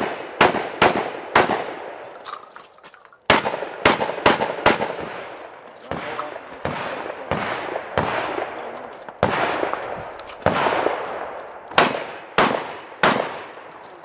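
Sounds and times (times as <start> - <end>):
echoing gunshots: 0.0 - 2.4, 3.2 - 13.8.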